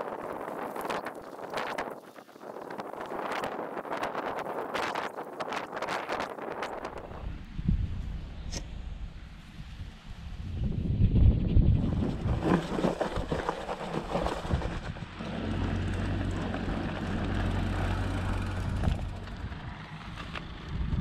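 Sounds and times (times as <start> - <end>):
bike tyres rolling on dirt: 0.0 - 8.3, 11.4 - 21.0.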